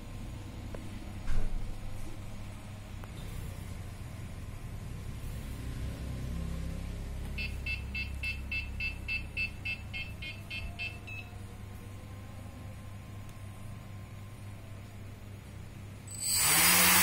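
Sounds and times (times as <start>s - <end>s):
faint low hum: 0.0s - 16.1s.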